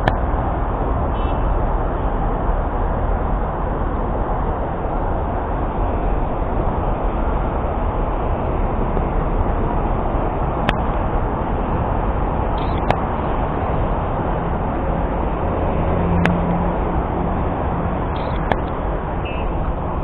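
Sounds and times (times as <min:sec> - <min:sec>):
distant city traffic rumble: 0:00.0 - 0:20.0.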